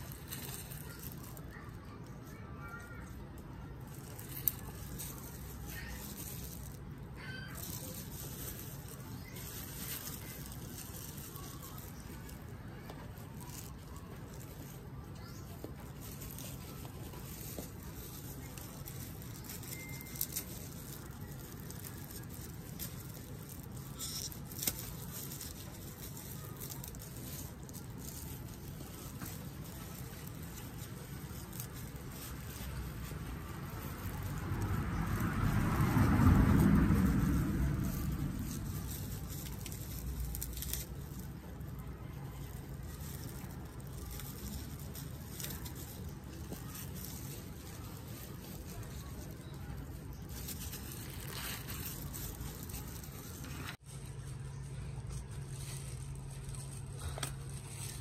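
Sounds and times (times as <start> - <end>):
plastic clicks and rustles: 0.0 - 53.9, 55.0 - 58.0
low background hum: 0.0 - 58.0.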